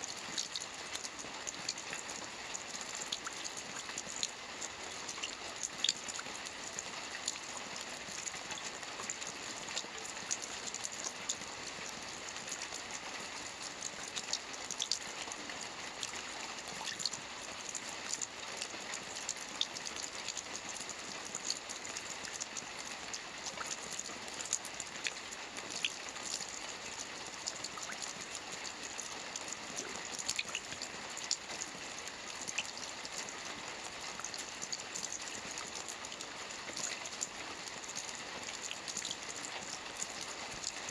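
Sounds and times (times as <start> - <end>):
rain falling on a lake: 0.0 - 40.9.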